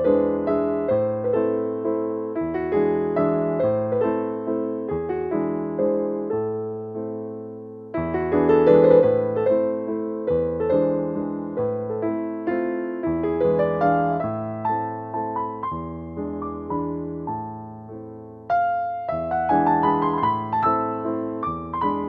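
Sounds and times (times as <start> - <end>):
gentle piano waltz: 0.0 - 22.0.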